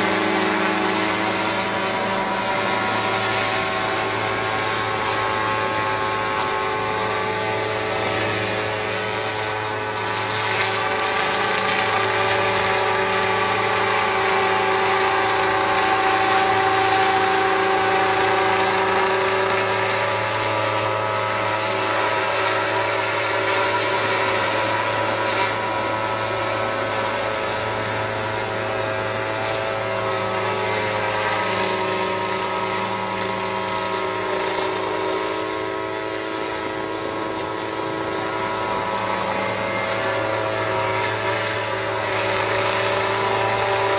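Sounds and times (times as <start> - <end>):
helicopter drone overhead: 0.0 - 43.9.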